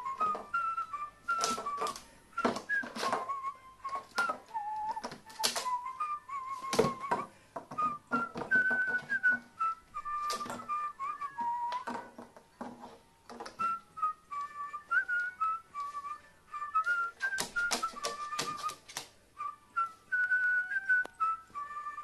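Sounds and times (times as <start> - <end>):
whistled melody: 0.0 - 22.0.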